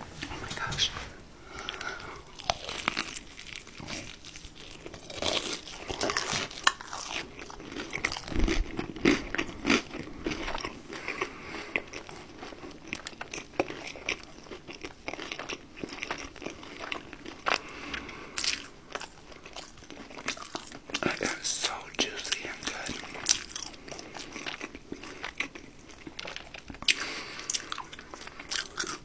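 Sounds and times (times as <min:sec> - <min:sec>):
crunchy chewing of fried chicken: 0:01.5 - 0:29.0.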